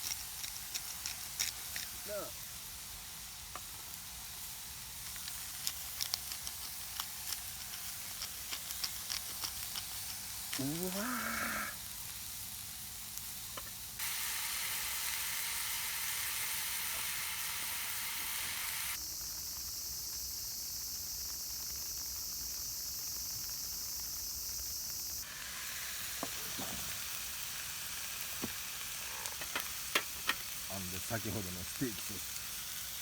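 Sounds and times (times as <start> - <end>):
steak sizzling in a pan: 0.0 - 33.0.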